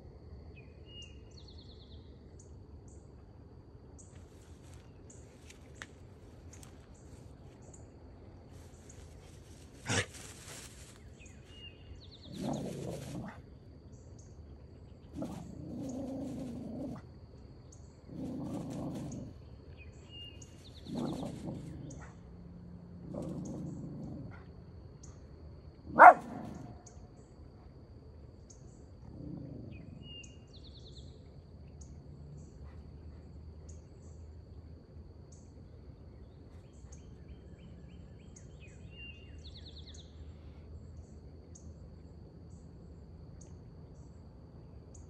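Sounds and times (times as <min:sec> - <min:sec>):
high insect drone: 0:00.0 - 0:45.0
bird and insect chirps: 0:00.4 - 0:45.0.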